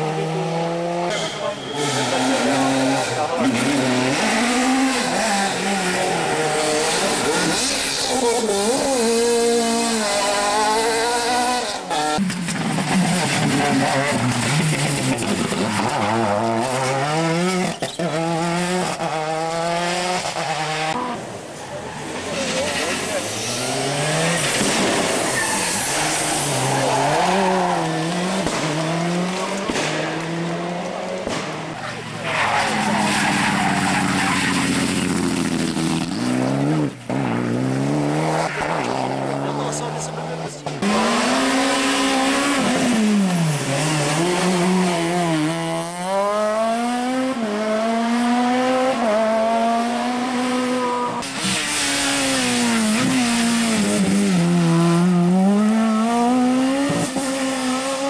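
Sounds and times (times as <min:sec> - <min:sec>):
rally car engines accelerating: 0:00.0 - 0:58.0.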